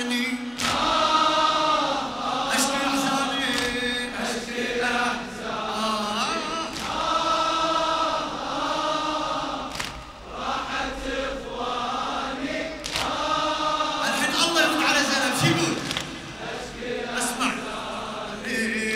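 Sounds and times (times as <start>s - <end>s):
congregation chanting in unison: 0.0s - 18.9s.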